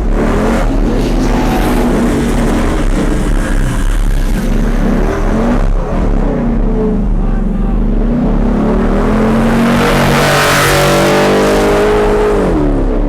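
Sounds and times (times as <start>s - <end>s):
car engine revving loudly: 0.0s - 13.0s
constant rushing noise: 0.0s - 13.0s.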